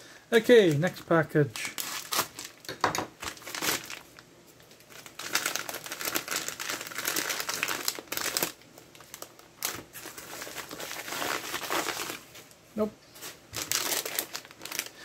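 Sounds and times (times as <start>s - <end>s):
plastic and foil crinkling: 0.4s - 12.5s, 13.2s - 15.0s.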